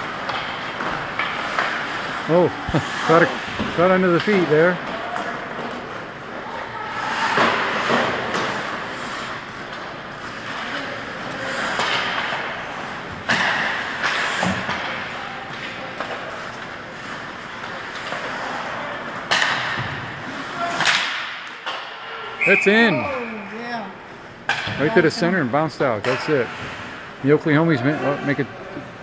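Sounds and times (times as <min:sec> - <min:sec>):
hockey sticks skates and puck: 0:00.0 - 0:23.5, 0:24.2 - 0:25.0, 0:25.8 - 0:29.0.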